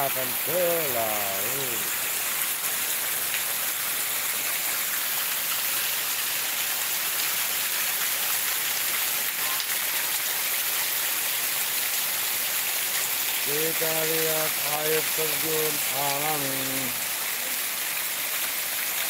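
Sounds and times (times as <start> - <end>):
rain on wet concrete: 0.0 - 19.0
runoff water spilling down steps: 0.0 - 19.0.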